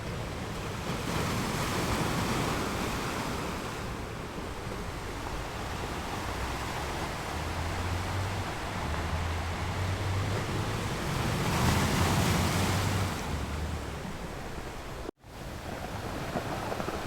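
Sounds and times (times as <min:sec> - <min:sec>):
ocean waves rolling in: 0:00.0 - 0:17.0.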